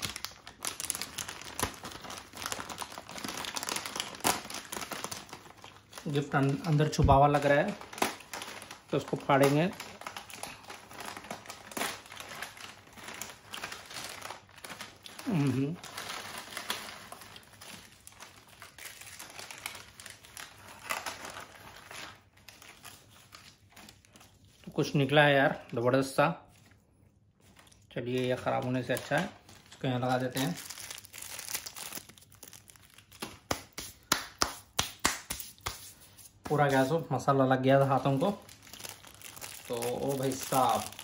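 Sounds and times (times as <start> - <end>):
snack packet crinkling: 0.0 - 25.8, 27.4 - 37.0, 37.8 - 41.0.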